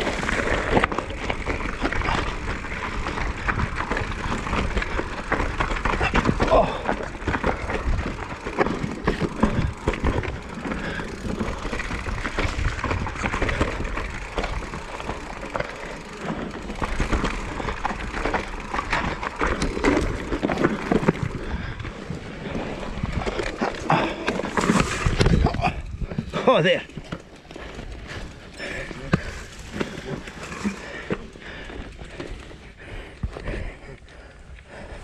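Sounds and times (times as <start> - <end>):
bike rattling over bumps: 0.0 - 35.0
bike tyres rolling on dirt: 0.0 - 35.0.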